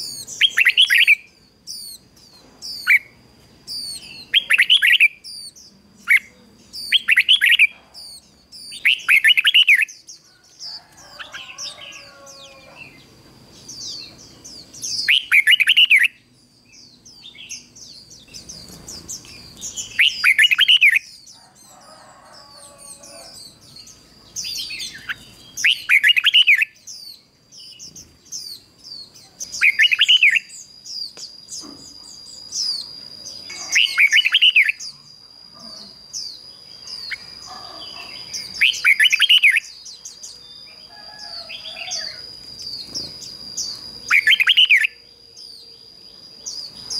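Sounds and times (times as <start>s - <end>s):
bird warbled song: 0.0s - 46.9s.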